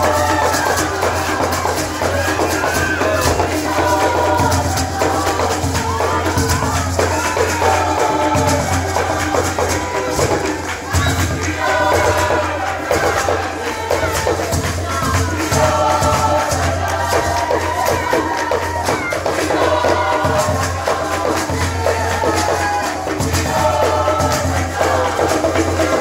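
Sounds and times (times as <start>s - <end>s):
choir singing in harmony: 0.0s - 26.0s
rhythmic hand-clapping: 0.0s - 26.0s.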